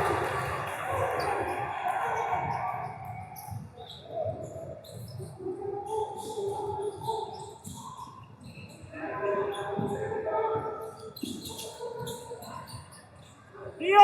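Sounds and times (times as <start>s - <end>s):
background chatter: 0.0s - 14.0s.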